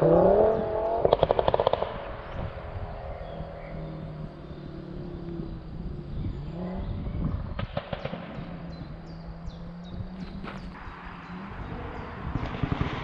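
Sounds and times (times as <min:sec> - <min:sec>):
distant car engine: 0:00.0 - 0:13.0
exhaust crackles and pops: 0:00.0 - 0:13.0.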